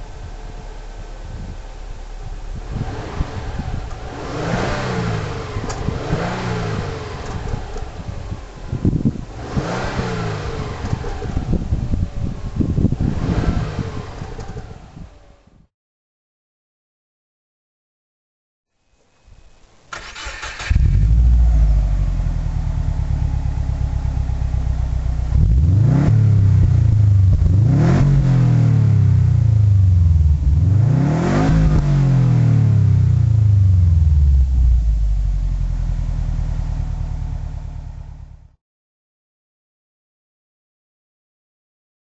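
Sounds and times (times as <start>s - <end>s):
car engine idling and revving: 0.0s - 15.6s, 20.0s - 38.6s.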